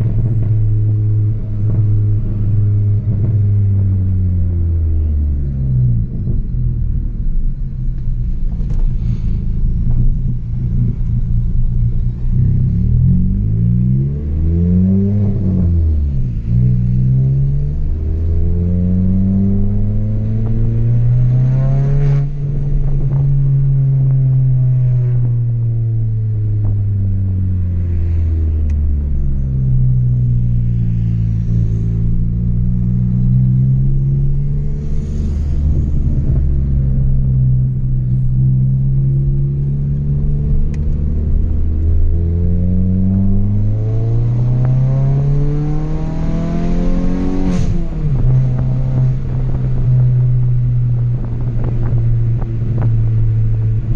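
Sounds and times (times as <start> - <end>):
car engine revving while driving: 0.0 - 53.9.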